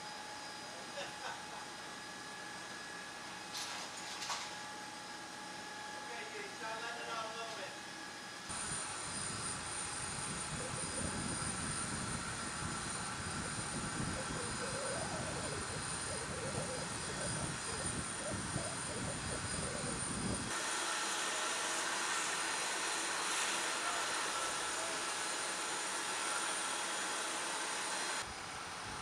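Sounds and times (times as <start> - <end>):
jet turbine whine: 0.0 - 29.0.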